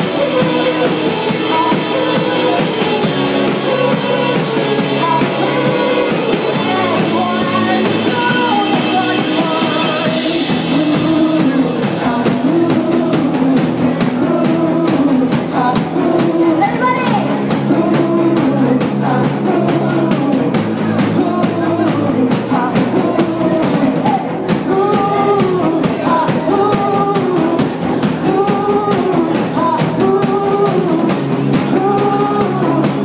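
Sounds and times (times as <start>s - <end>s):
drum kit: 0.0s - 33.0s
electric guitars: 0.0s - 33.0s.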